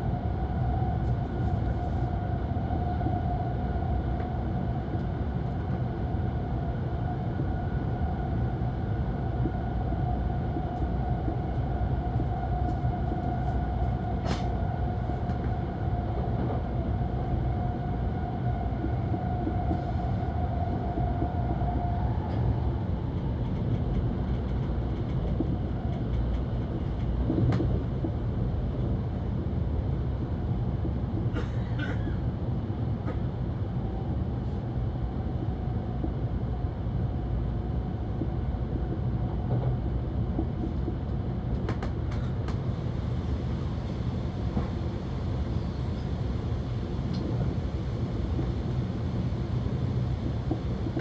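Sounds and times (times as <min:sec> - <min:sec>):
train low rumble inside car: 0:00.0 - 0:51.0.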